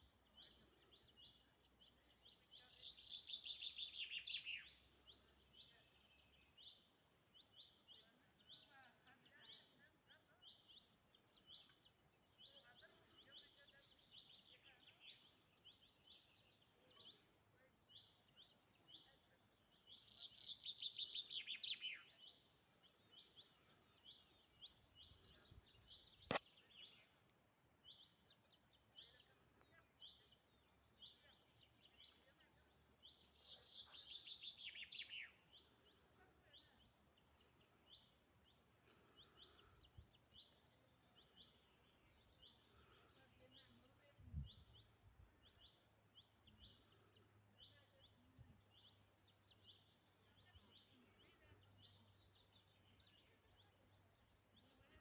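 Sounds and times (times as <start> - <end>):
bird chirps: 0.0 - 9.8, 10.4 - 53.9.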